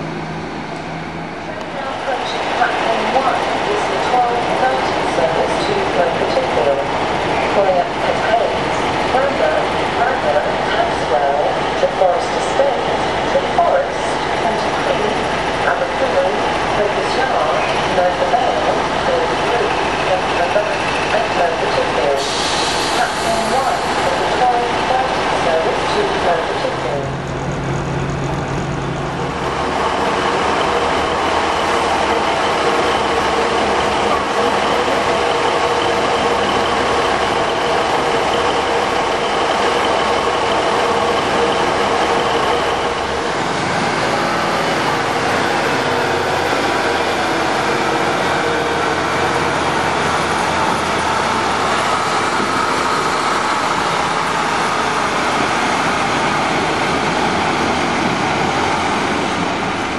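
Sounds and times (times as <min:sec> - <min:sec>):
diesel train engines humming: 0:00.0 - 0:59.9
train passing: 0:00.0 - 0:59.9.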